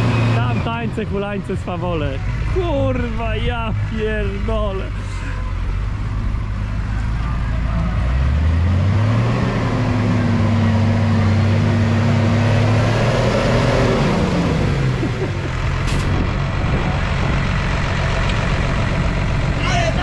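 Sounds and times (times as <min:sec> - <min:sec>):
diesel engine revving and idling: 0:00.0 - 0:20.0.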